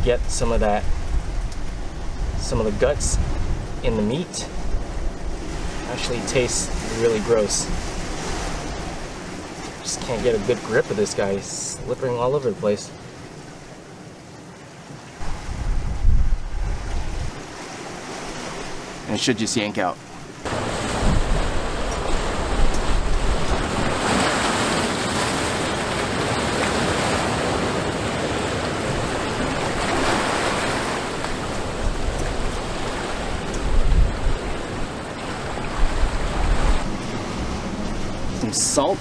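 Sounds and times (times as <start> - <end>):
wind on microphone: 0.0 - 10.2, 15.2 - 19.0, 20.3 - 39.0
ocean surf on rocks: 0.0 - 39.0.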